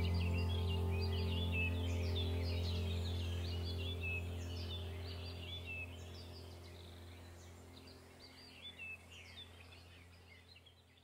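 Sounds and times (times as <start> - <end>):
steady low drone: 0.0 - 10.8
birds chirping: 0.0 - 11.0.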